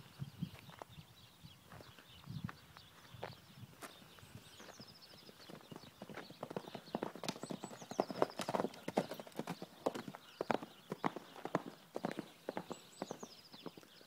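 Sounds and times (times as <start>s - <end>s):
horse hoofbeats on dry earth: 2.5s - 13.9s.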